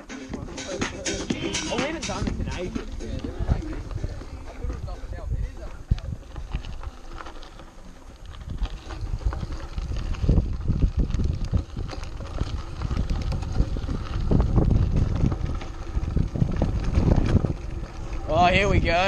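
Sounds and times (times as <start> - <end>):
bike rattling over bumps: 0.0 - 19.0
wind buffeting microphone: 0.2 - 19.0
bike tyres crunching on gravel: 1.4 - 19.0.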